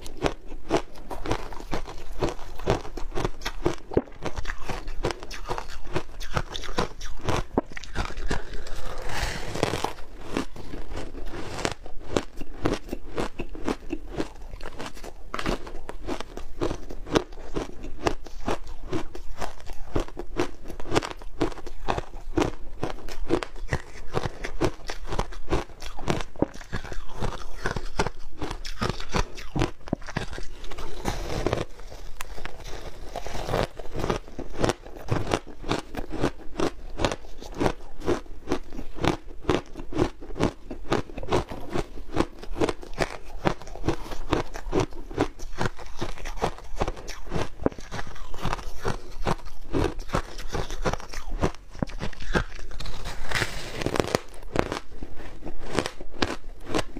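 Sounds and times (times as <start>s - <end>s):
crisp crunching of shaved ice: 0.0s - 56.9s.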